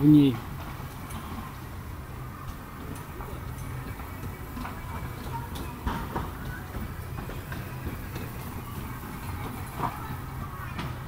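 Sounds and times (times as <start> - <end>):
bumper cars clacking: 0.0 - 11.0.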